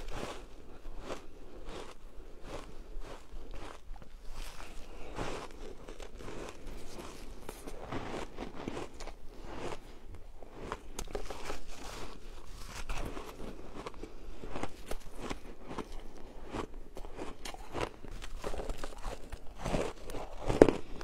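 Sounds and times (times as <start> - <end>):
shaved ice crunching in mouth: 0.0 - 21.0.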